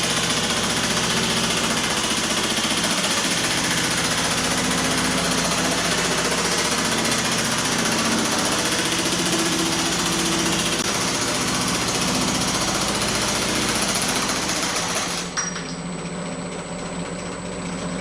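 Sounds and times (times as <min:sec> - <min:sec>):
sheet metal machine hammering: 0:00.0 - 0:15.9
steady machine hum: 0:00.0 - 0:18.0.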